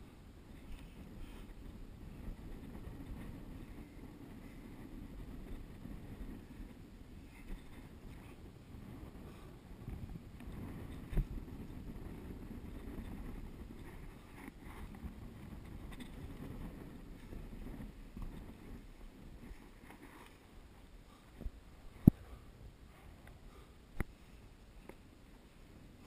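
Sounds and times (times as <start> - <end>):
wind buffeting microphone: 0.0 - 24.2.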